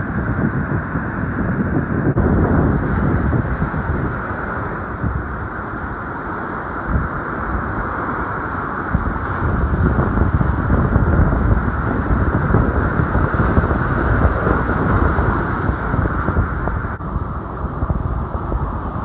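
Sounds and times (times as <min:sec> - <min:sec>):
rough surf breaking: 0:00.0 - 0:19.0
wind buffeting microphone: 0:00.0 - 0:19.0.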